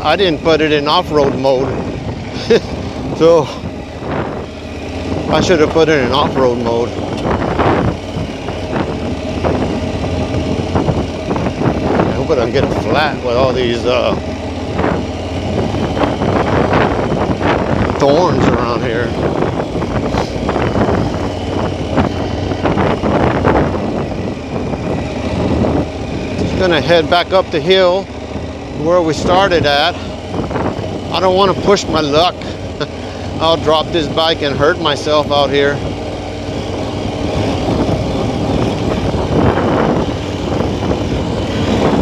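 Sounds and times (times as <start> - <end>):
motorcycle engine running: 0.0 - 42.0
rushing riding noise: 0.0 - 42.0.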